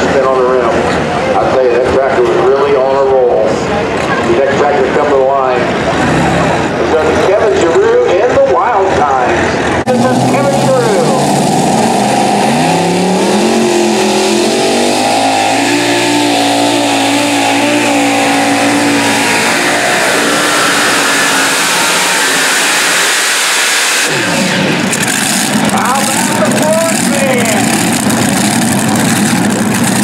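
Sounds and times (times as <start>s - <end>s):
pulling tractor engines at full throttle: 0.0s - 30.0s.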